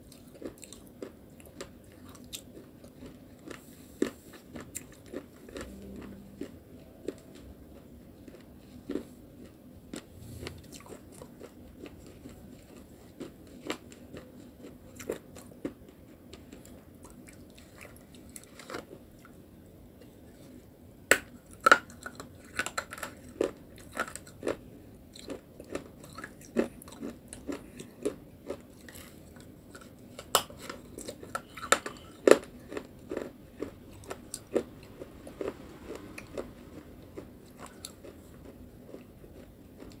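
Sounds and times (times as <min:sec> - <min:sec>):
crunchy clay chewing: 0:00.0 - 0:40.0.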